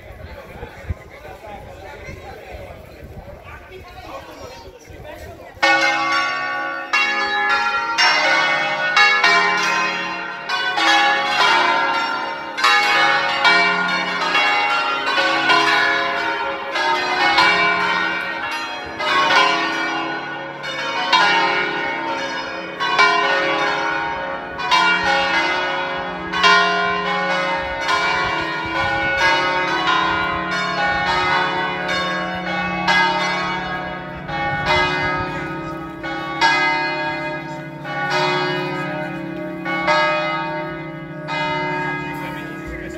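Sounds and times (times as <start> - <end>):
church bells ringing: 5.5 - 42.9.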